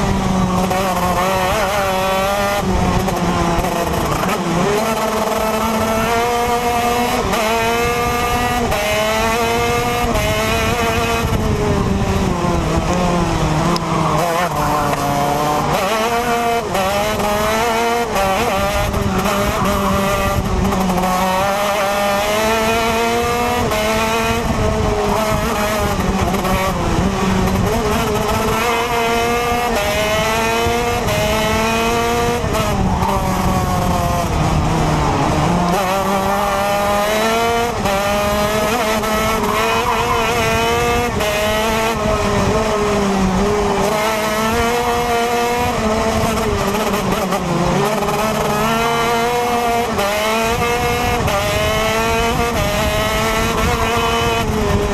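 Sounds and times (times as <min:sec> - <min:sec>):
kart engine at racing speed: 0:00.0 - 0:54.9.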